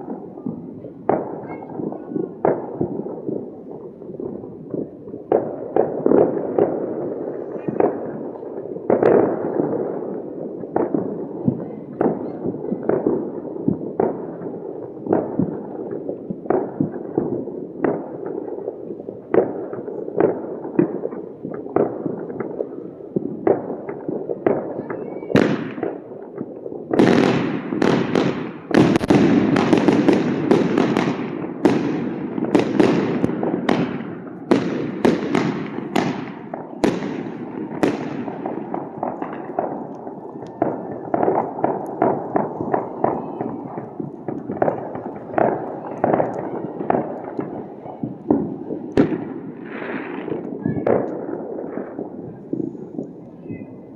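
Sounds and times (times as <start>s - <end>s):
distant fireworks rumble: 0.0s - 53.9s
firecracker barrage of rapid cracks: 0.0s - 53.9s
fireworks bangs and pops: 0.0s - 53.9s.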